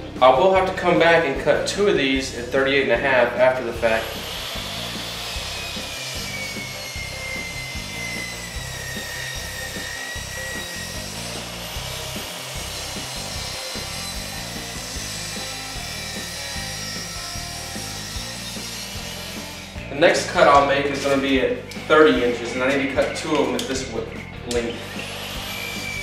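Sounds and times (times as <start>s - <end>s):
miter saw cutting wood: 0.0s - 26.0s.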